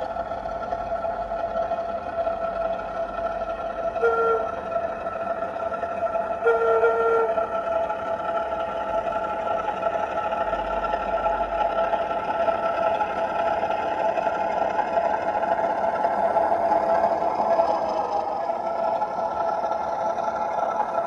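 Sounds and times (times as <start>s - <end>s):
model locomotive engine sound: 0.0s - 21.0s.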